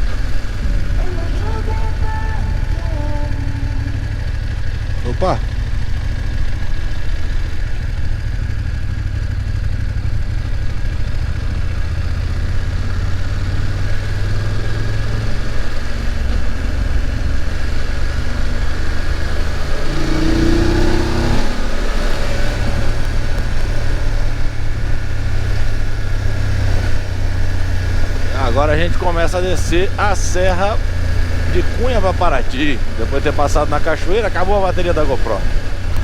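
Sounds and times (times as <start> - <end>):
motorcycle engine rumble: 0.0 - 36.0.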